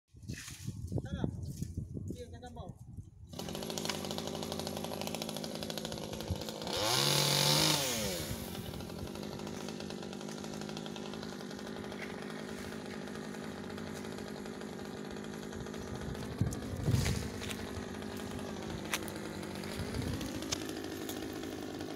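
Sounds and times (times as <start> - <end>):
chainsaw engine revving and idling: 3.3 - 21.9.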